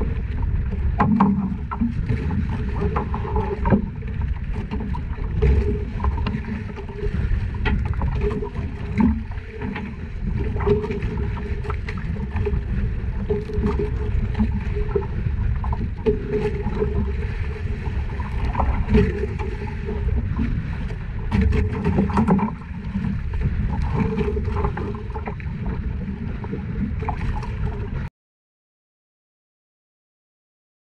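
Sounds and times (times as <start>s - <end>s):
boat motor rumbling: 0.0s - 28.1s
water noise: 0.0s - 28.1s
wind: 0.0s - 28.1s.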